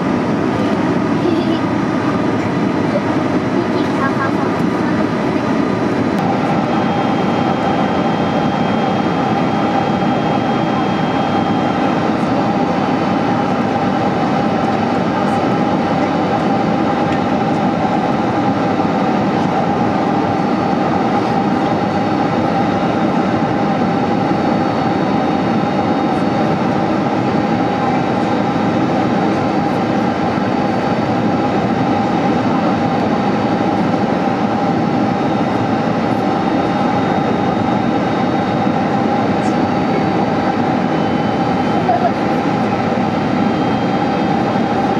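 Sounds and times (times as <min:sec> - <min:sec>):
jet engine and airflow roar: 0:00.0 - 0:44.9.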